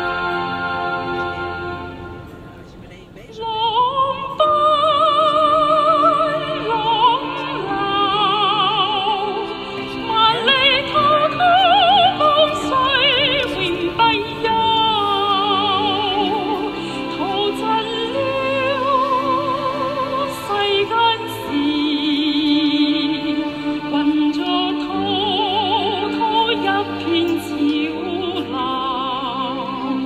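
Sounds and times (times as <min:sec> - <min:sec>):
operatic singing with orchestra: 0:00.0 - 0:02.4, 0:03.3 - 0:30.0.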